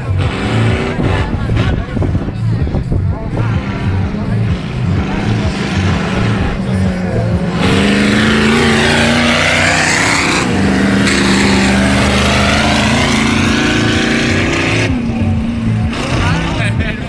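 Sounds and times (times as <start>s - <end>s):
distant tractor engine: 0.0s - 17.0s
tractor engine running hard: 0.0s - 17.0s.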